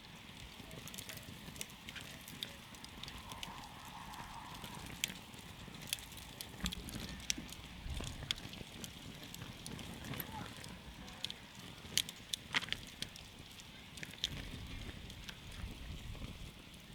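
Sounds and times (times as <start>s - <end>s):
campfire crackling: 0.0s - 16.9s.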